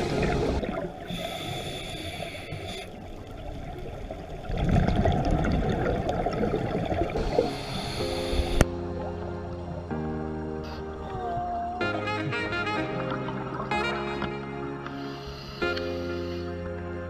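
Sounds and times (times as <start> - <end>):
underwater bubbling and gurgling: 0.0 - 16.4.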